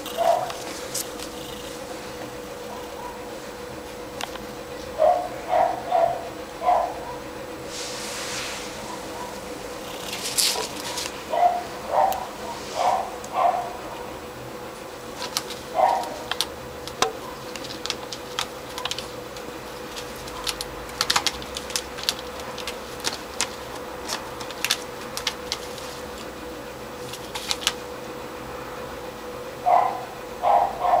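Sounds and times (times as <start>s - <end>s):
cat clicking and scratching: 0.0s - 7.3s, 8.9s - 14.1s, 15.0s - 28.1s
faint steady hum: 0.0s - 31.0s.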